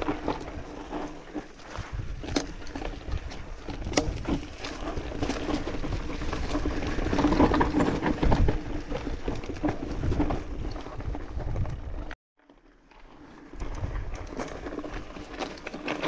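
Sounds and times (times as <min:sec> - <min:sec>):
tyres crunching over stones: 0:00.0 - 0:12.2, 0:12.9 - 0:16.0
bike rattling: 0:00.0 - 0:16.0.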